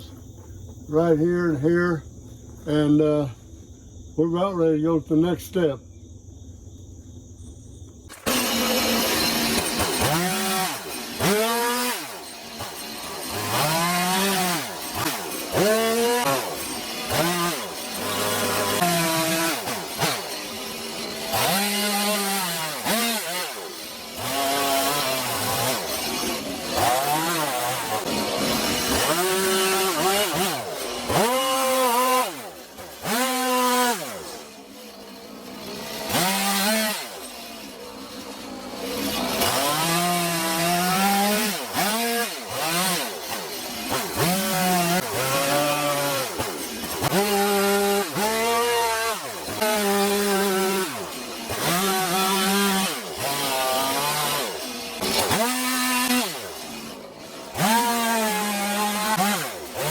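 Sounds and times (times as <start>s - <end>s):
chainsaw cutting wood: 8.1s - 59.9s.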